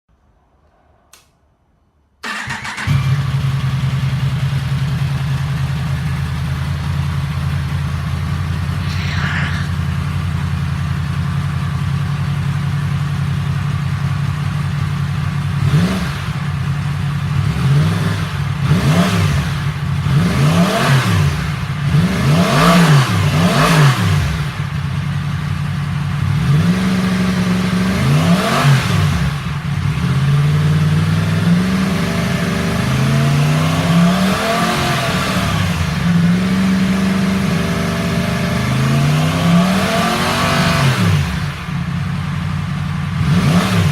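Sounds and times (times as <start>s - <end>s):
motorcycle engine idling and revving: 2.2s - 8.8s, 9.7s - 43.9s.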